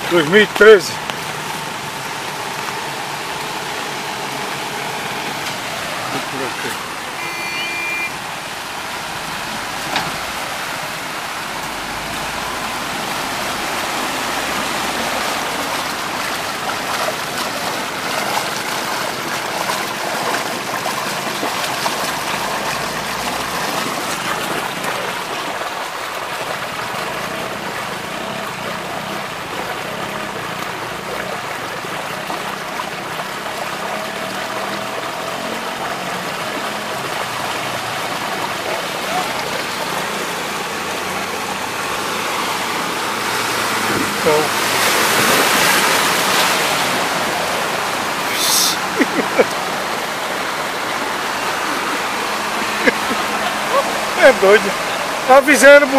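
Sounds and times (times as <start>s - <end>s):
floodwater gushing into drain: 0.0s - 55.9s.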